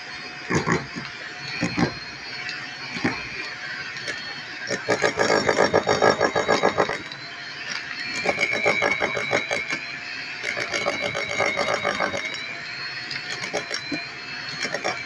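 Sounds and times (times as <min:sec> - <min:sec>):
hammer drill boring into concrete: 0:00.0 - 0:15.0.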